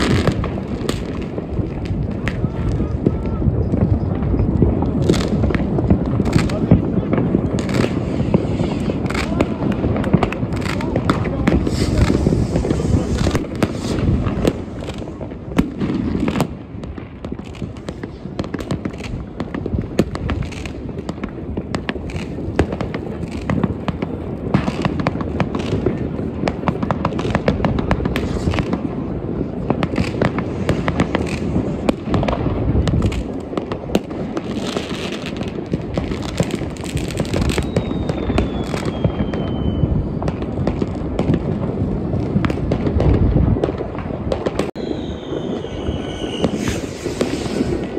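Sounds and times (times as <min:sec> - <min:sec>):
fireworks bangs and crackles: 0:00.0 - 0:47.9
whistling firework: 0:00.0 - 0:47.9.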